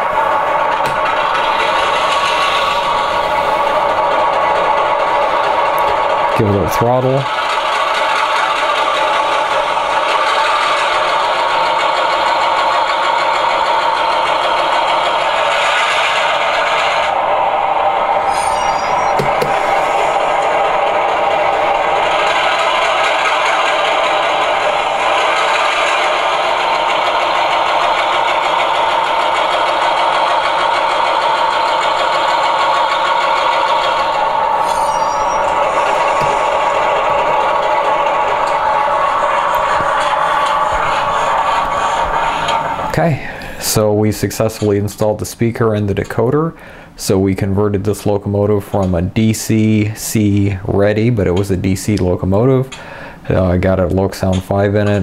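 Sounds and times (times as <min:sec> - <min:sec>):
model diesel engine sound chugging: 0:00.0 - 0:55.0.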